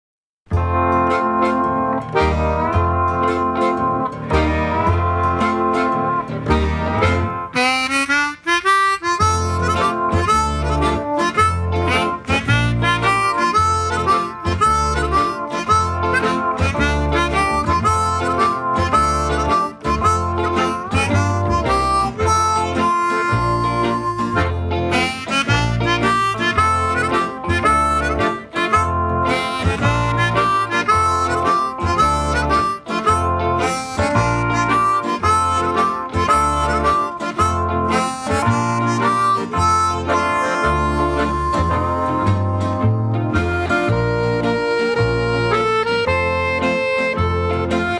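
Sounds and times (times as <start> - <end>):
steady bass beat: 0.5 - 7.5, 9.2 - 47.7
guitar: 0.5 - 47.9
harmonica tune: 0.5 - 47.9
reedy instrumental melody: 0.5 - 47.9.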